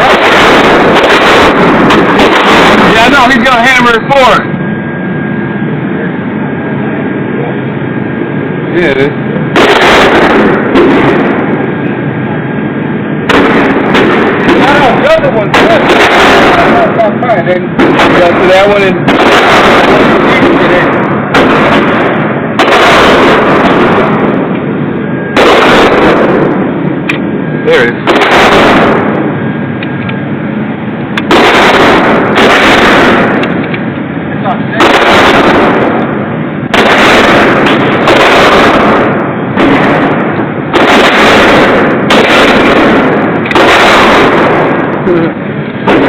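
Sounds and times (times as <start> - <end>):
loud distorted gunshots: 0.0 - 4.8, 8.7 - 11.8, 12.6 - 29.8, 30.5 - 46.0
pistol shots with rumbling echo: 0.0 - 46.0.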